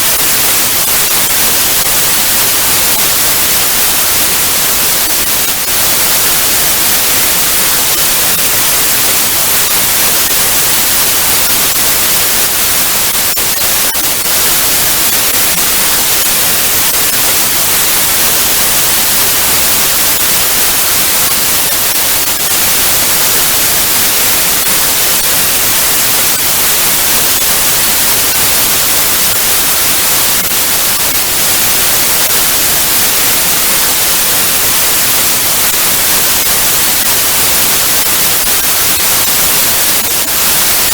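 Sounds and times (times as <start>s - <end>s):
television static hiss: 0.0s - 40.9s.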